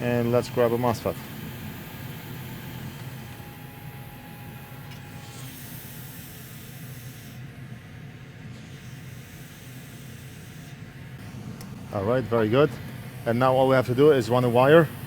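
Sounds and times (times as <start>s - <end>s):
hot-air station hissing: 0.0s - 7.9s, 8.5s - 15.0s.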